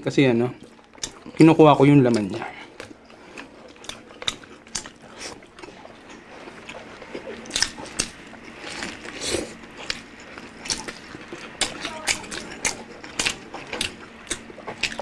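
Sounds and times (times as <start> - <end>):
faint steady hum: 0.0 - 15.0
people chewing and biting: 0.5 - 15.0.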